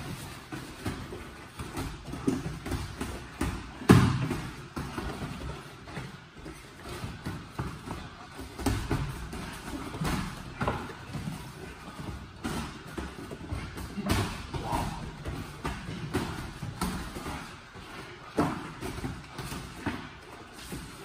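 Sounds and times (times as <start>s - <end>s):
feet shuffling on mat: 0.0s - 21.0s.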